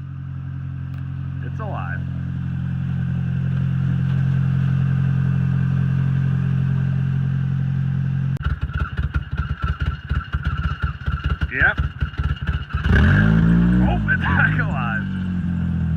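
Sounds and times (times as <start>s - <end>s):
car engine running: 0.0s - 15.9s.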